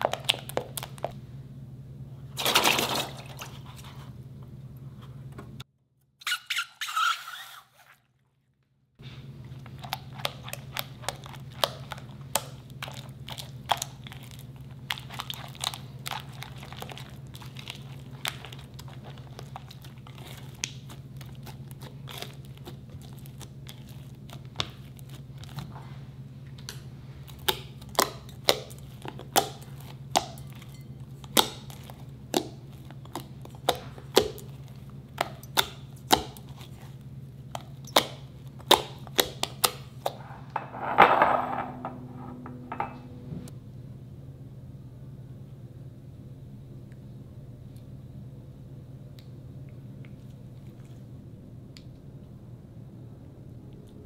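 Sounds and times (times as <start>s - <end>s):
steady low hum: 0.0s - 5.7s, 9.0s - 54.0s.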